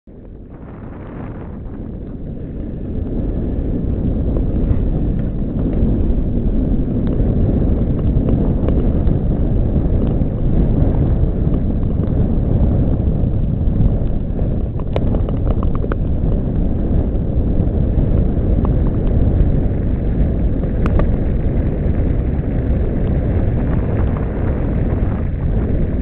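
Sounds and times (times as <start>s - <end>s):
wind buffeting microphone: 0.1s - 26.0s
skates gliding over ice: 0.2s - 26.0s.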